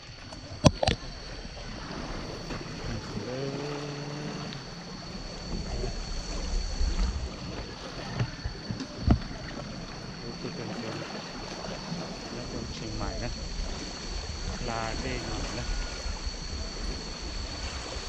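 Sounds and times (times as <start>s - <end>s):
water washing around raft: 0.0s - 18.0s
wind rumbling on microphone: 0.0s - 18.0s
short low hum: 0.2s - 18.0s
thin steady high tone: 1.1s - 18.0s.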